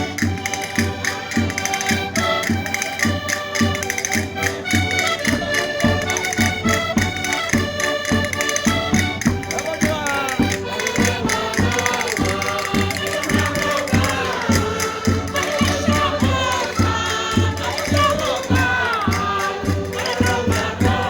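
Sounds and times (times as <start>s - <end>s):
concertinas playing folk music: 0.0s - 21.0s
voices singing: 0.0s - 21.0s.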